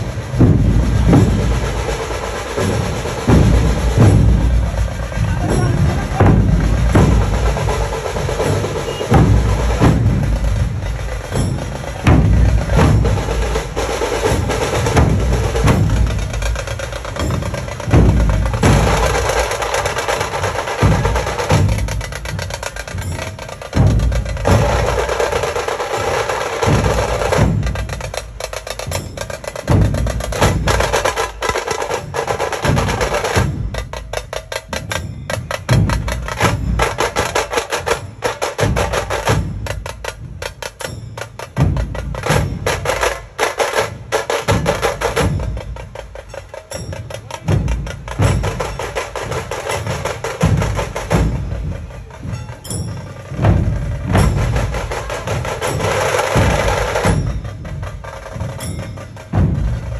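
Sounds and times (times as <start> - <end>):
troupe of drums beaten with sticks: 0.0 - 59.9.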